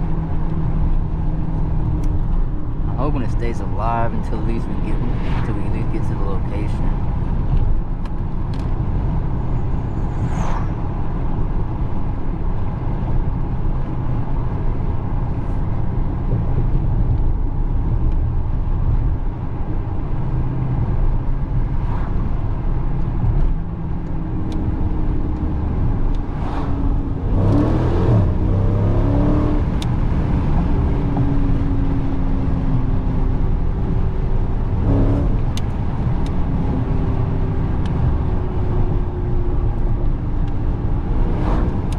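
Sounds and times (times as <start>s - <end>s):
tyre and road noise: 0.0s - 41.9s.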